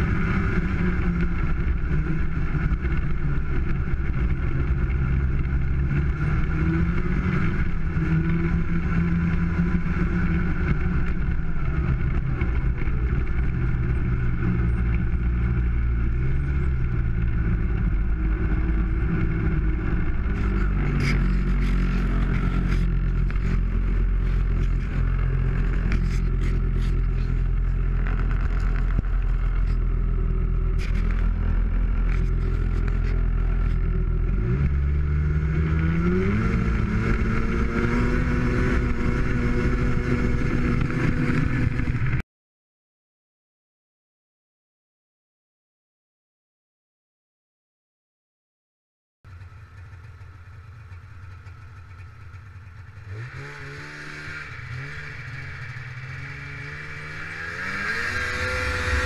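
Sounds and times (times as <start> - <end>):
snowmobile engine running: 0.0 - 42.2, 49.3 - 59.0.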